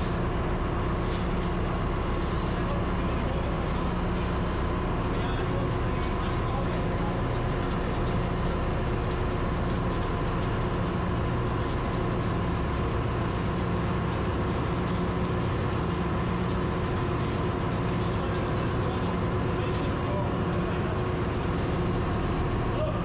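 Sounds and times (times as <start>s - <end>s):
constant high whine: 0.0s - 23.0s
engine room machinery hum: 0.0s - 23.0s.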